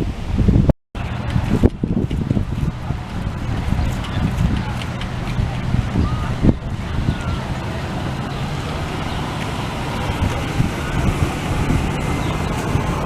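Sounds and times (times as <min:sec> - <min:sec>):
outdoor background noise: 0:00.0 - 0:13.0
wind buffeting microphone: 0:00.0 - 0:13.0.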